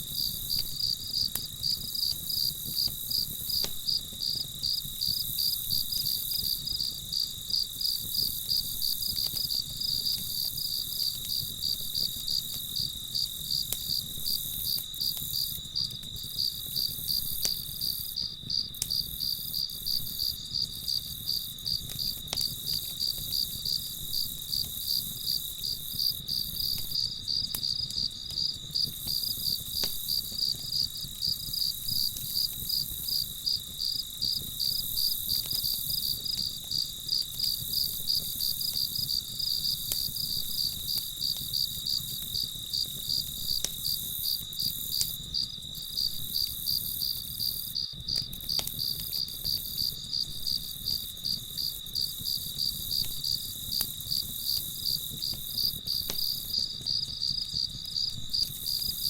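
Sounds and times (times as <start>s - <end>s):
campfire crackles: 0.0s - 59.0s
crickets chirping: 0.0s - 59.0s.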